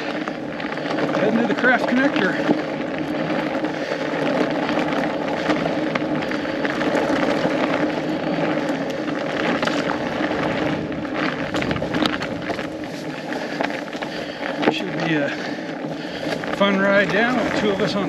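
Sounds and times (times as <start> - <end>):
bike tire hum: 0.0 - 18.0.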